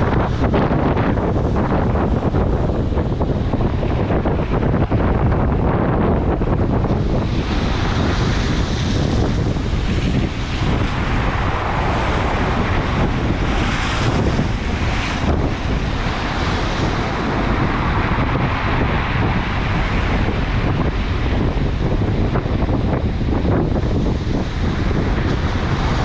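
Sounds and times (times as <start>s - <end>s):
heavy waves breaking: 0.0s - 26.0s
wind buffeting microphone: 0.0s - 26.0s.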